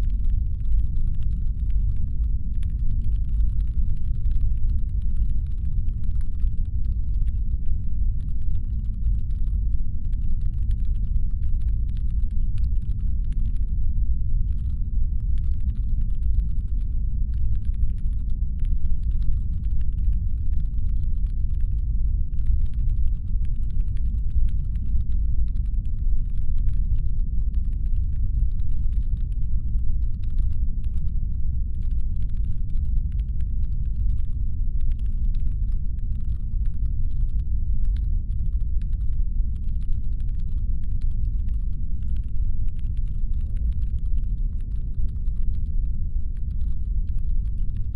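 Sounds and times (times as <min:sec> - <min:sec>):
faint irregular clicking: 0:00.0 - 0:13.8, 0:14.4 - 0:47.9
deep steady rumble: 0:00.0 - 0:47.9.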